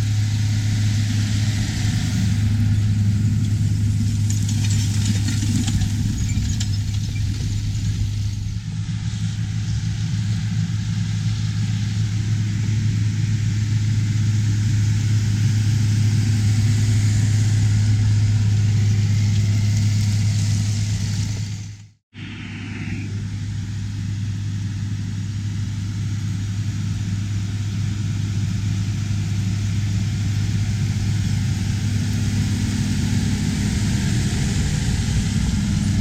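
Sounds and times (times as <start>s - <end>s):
diesel farm machinery drone: 0.0s - 36.0s.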